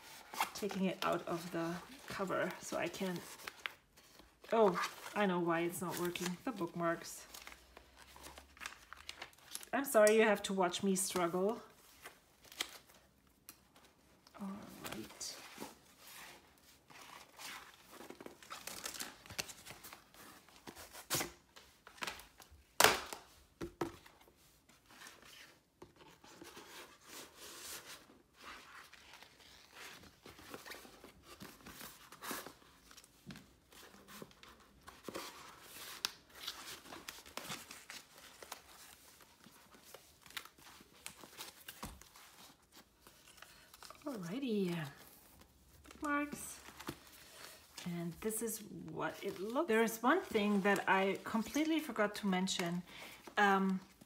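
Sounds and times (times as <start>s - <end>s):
plastic and paper rustling: 0.0s - 54.0s.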